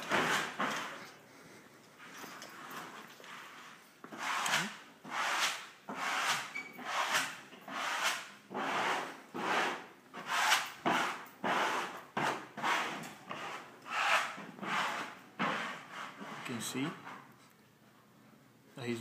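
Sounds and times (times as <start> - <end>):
rubbing strokes on wallcovering: 0.0 - 1.7, 2.6 - 17.3.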